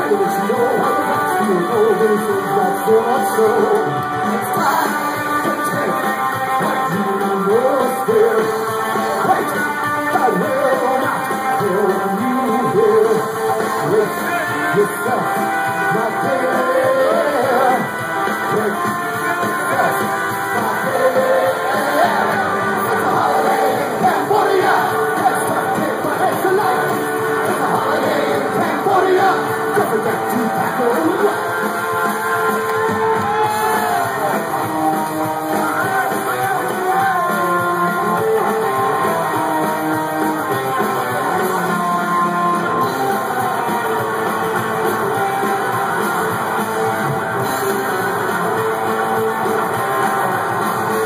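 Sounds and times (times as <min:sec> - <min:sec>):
live punk rock band: 0:00.0 - 0:51.0
shouted lead vocal: 0:00.0 - 0:51.0.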